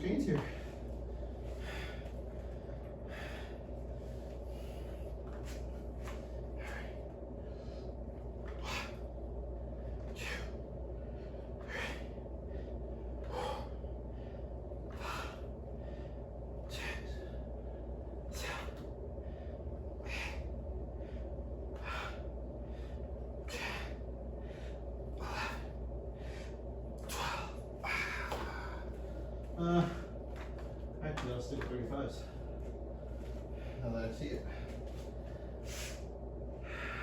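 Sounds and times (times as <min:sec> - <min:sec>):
man breathing forcefully: 0:00.3 - 0:30.4, 0:34.4 - 0:37.0.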